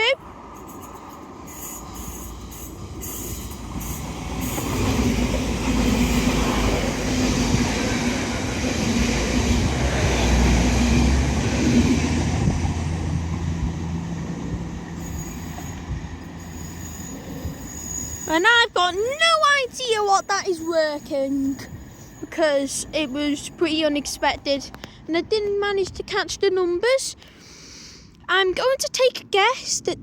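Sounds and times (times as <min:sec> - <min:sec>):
train passing with wheel noise: 0:00.0 - 0:27.2.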